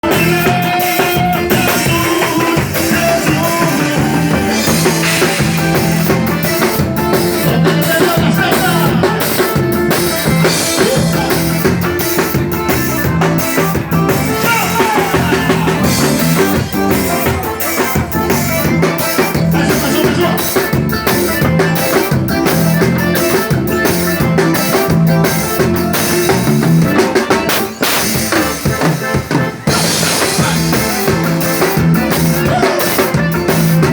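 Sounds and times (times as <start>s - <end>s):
band playing forro music: 0.0s - 33.9s
drum kit beat: 0.0s - 33.9s.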